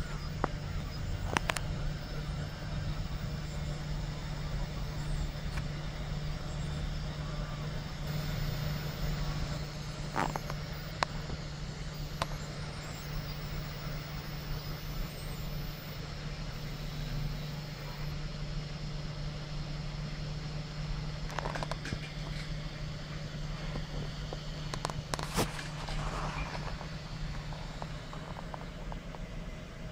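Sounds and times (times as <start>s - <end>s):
three d printer humming: 0.0s - 29.9s.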